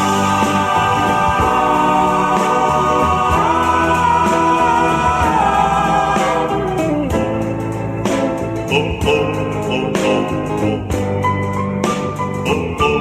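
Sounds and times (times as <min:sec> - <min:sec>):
doo-wop vocal group harmony singing: 0:00.0 - 0:07.6, 0:08.7 - 0:11.1, 0:12.5 - 0:13.0.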